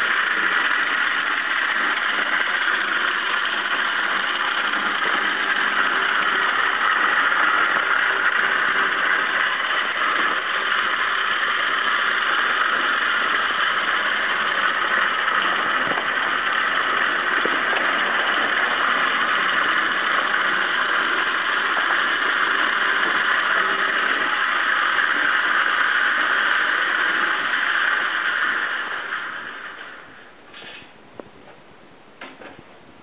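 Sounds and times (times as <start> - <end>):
electric motor whirring: 0.0 - 30.7.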